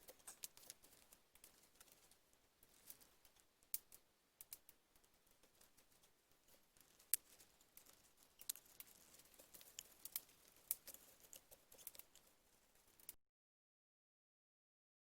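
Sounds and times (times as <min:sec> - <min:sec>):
faint sharp clicks and ticks: 0:00.0 - 0:13.2.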